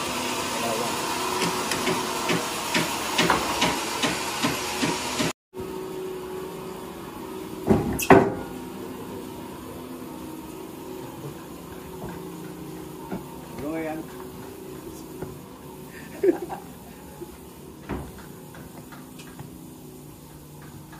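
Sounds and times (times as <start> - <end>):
sawmill machinery humming: 0.0 - 20.9.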